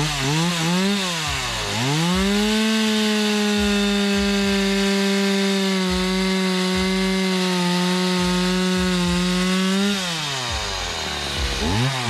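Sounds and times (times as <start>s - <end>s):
chainsaw revving and cutting log: 0.0s - 12.0s.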